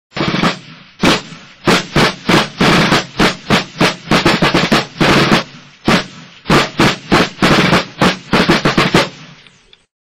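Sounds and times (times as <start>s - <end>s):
sharp drum strokes: 0.1s - 9.4s.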